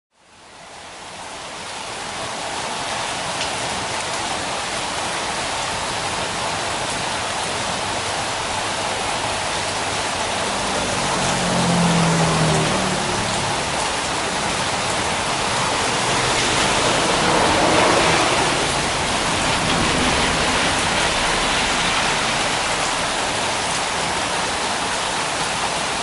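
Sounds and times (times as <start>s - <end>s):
rain falling on foliage: 0.1s - 26.0s.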